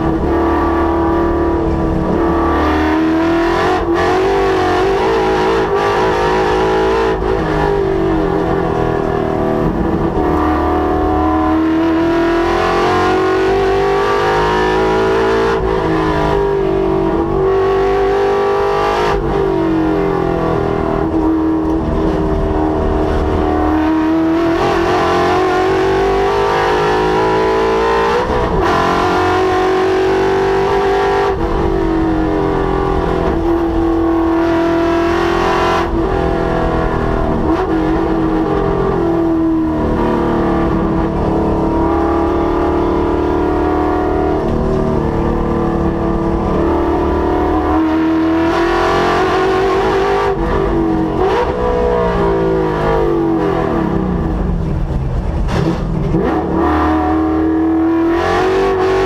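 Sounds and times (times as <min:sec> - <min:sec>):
car engine accelerating and braking: 0:00.0 - 0:59.0.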